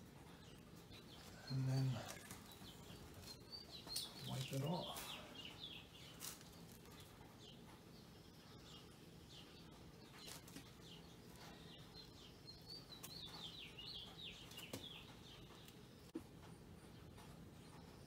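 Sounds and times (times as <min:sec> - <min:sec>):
faint bird chirping: 0:00.0 - 0:18.0.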